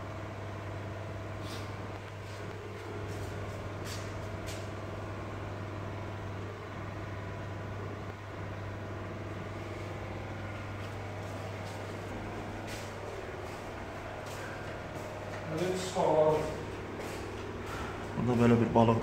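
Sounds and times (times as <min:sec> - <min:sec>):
aquarium pumps humming: 0:00.0 - 0:19.0.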